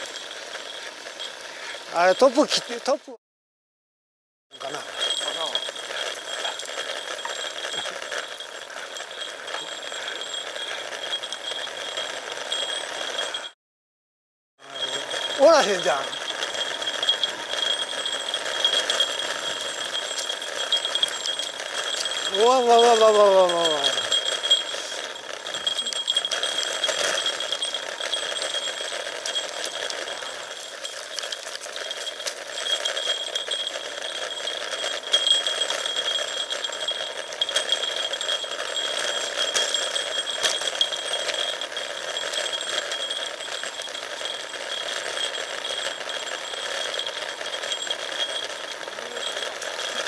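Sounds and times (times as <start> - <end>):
bike frame rattling over bumps: 4.6 - 13.5, 14.7 - 50.0
freewheeling hub buzz: 4.6 - 13.6, 14.6 - 50.0.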